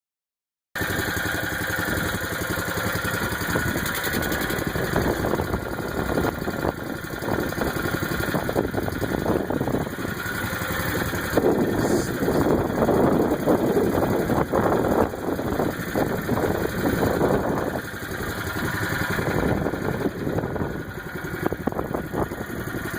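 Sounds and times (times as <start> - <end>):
engine idling: 0.8 - 22.9.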